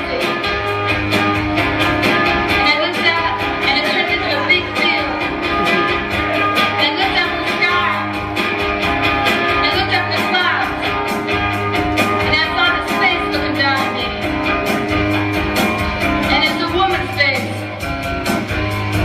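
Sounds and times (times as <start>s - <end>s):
rock song with guitar: 0.0s - 19.0s
steady beat: 0.1s - 19.0s.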